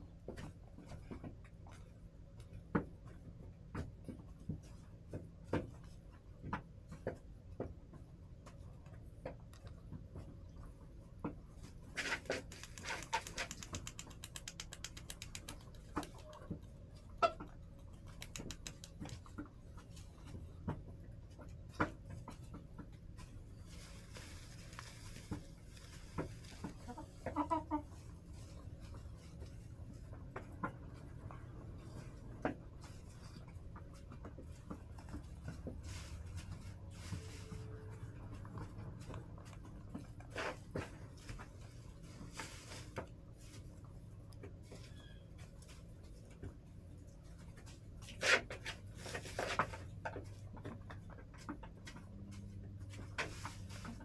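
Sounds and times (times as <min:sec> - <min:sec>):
hens pecking and scratching: 0:00.0 - 0:54.0.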